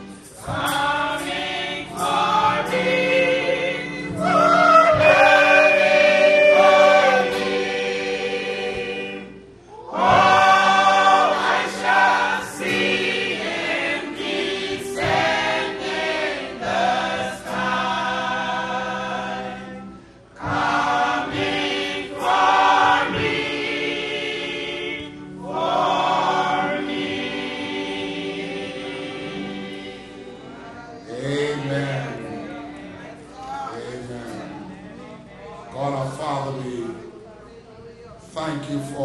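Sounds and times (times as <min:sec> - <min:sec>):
church choir singing: 0:00.0 - 0:39.0.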